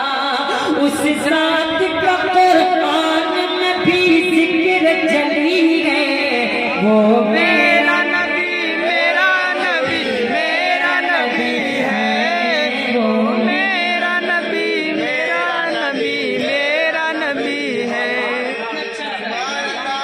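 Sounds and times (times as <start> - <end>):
man singing: 0.0 - 19.3.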